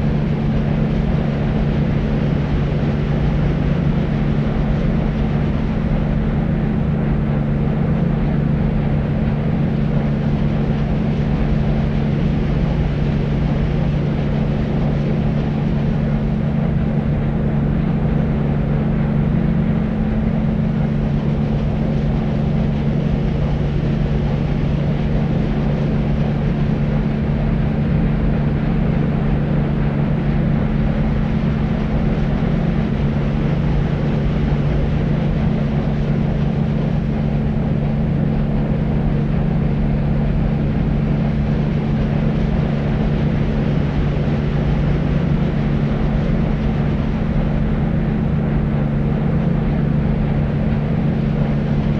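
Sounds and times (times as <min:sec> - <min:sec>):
low rumbling white noise: 0:00.0 - 0:51.9
steady low hum: 0:00.0 - 0:51.9.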